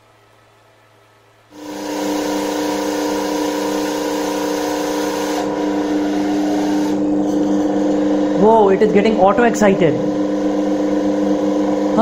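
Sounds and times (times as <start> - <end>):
motor-generator whine: 0.0 - 12.0.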